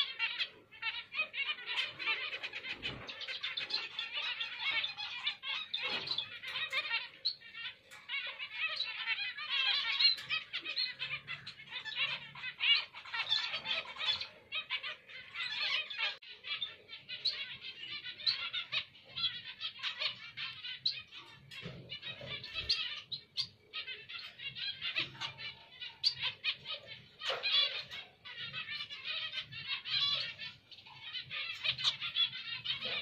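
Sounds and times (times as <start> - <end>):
finches calling and singing: 0.0 - 33.0.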